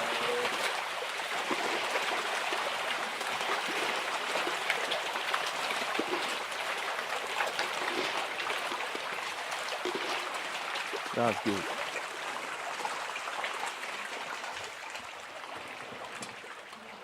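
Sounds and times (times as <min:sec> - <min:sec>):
water splashes and drips: 0:00.0 - 0:17.0
water trickling: 0:00.0 - 0:17.0.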